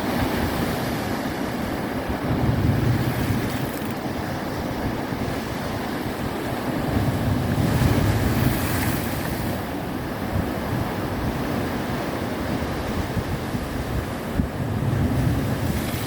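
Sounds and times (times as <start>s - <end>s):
ocean waves washing in: 0.0s - 16.0s
wind buffeting microphone: 0.0s - 16.0s.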